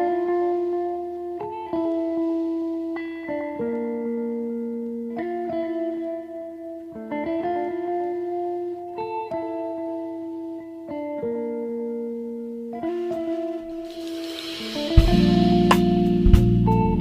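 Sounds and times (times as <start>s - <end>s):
guitar slow sustained chords: 0.0s - 17.0s.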